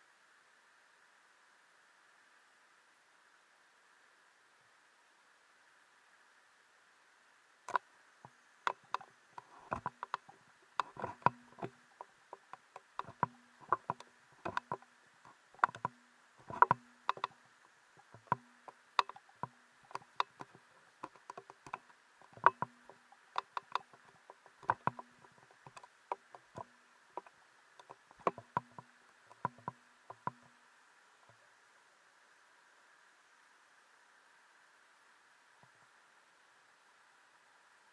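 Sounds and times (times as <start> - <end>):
faint steady hiss: 0.0 - 37.9.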